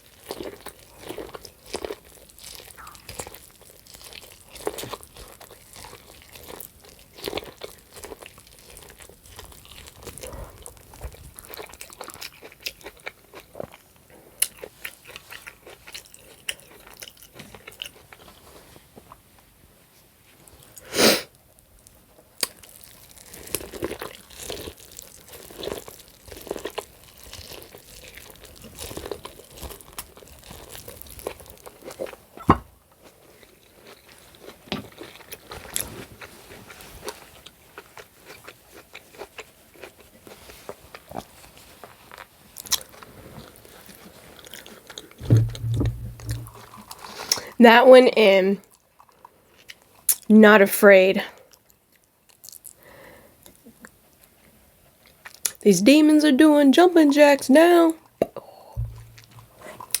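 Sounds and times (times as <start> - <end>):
chewing steak: 0.0 - 19.2, 21.6 - 47.6, 48.6 - 50.3, 51.4 - 55.6, 58.0 - 60.0.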